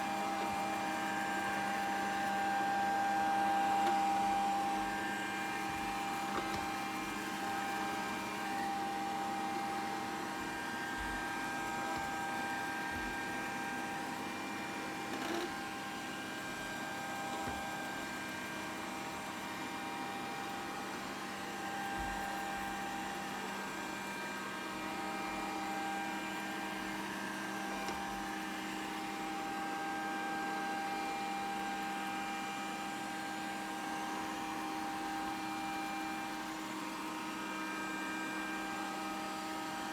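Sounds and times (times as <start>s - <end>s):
robot vacuum whining hum: 0.0s - 39.9s.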